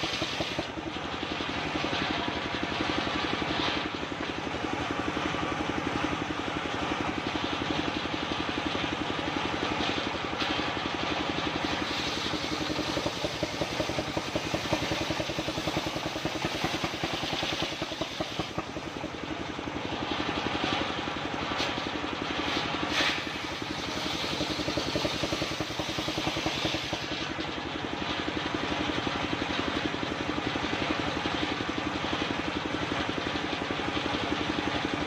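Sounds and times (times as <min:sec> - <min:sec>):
circular saw engine running: 0:00.0 - 0:29.9.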